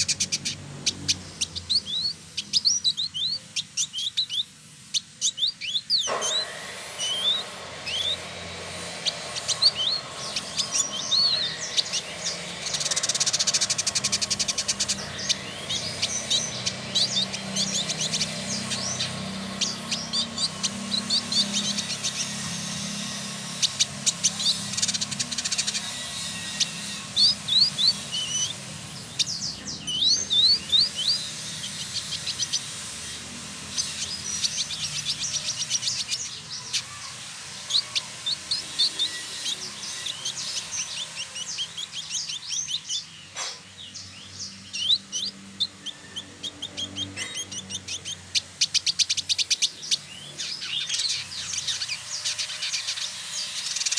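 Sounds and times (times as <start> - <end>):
bird singing high chirps: 0.0 - 53.9.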